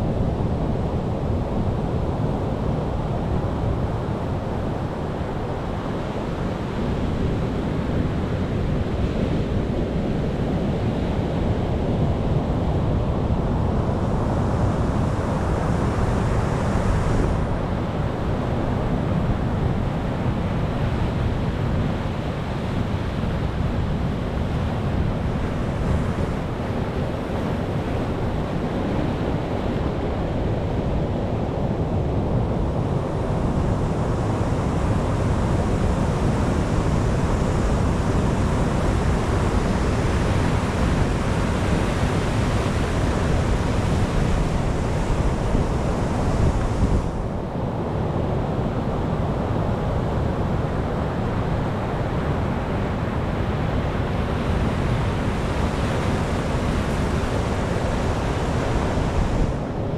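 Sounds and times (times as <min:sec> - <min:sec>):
waves washing onto shore: 0:00.9 - 0:59.9.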